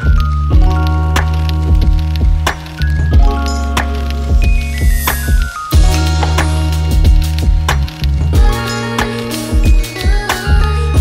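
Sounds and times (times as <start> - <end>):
music with drums and bass: 0.0 - 11.0.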